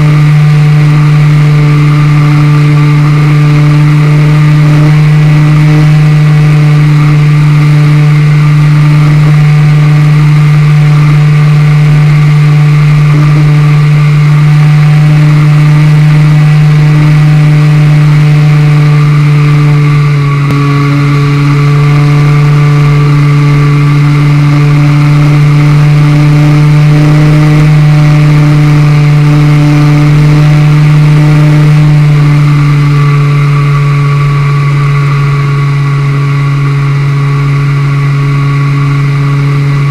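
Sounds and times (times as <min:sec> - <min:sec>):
model plane propeller drone: 0:00.0 - 0:39.9.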